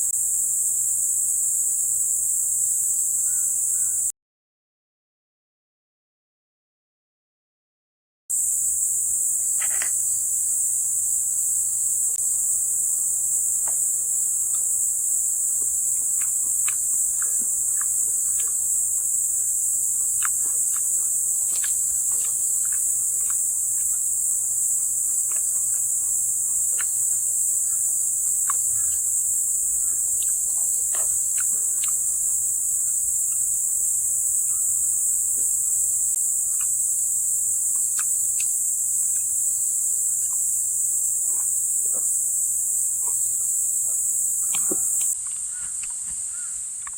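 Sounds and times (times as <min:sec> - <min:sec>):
crickets chirping: 0:00.0 - 0:04.1, 0:08.3 - 0:46.9.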